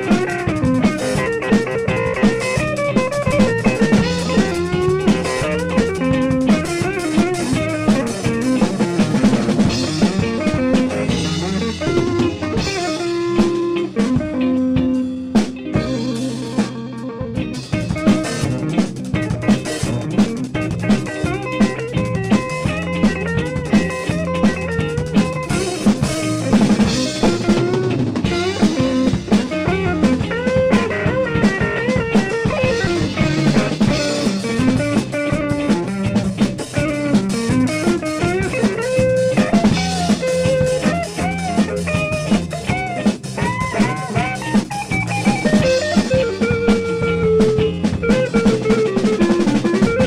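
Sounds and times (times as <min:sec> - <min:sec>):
electric guitar melody: 0:00.0 - 0:50.0
rock drum beat: 0:00.0 - 0:50.0.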